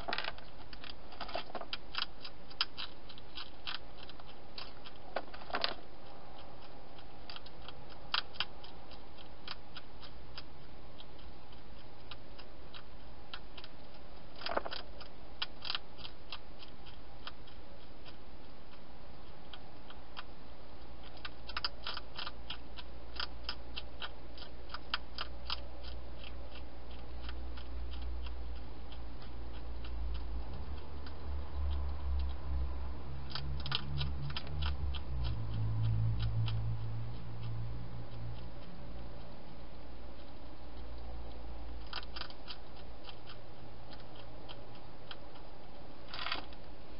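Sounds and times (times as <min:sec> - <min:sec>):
hedgehog crunching dry food: 0:00.0 - 0:46.9
low hum: 0:00.0 - 0:46.9.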